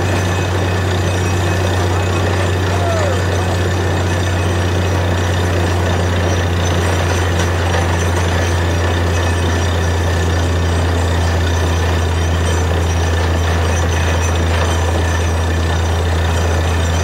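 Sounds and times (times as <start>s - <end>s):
deep engine hum: 0.0s - 17.0s.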